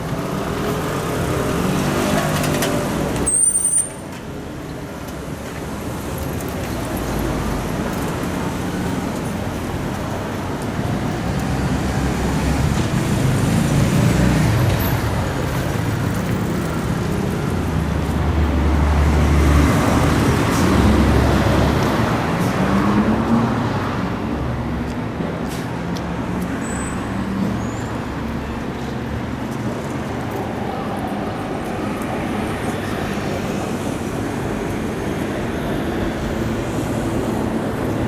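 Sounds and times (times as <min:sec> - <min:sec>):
buses and trucks passing: 0:00.0 - 0:38.0
cars passing: 0:00.0 - 0:38.0.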